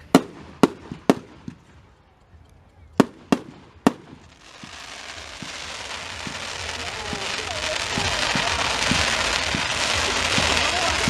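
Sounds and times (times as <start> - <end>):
fireworks bangs: 0.0 - 2.0, 3.0 - 11.0
crackling fireworks hiss: 0.0 - 11.0.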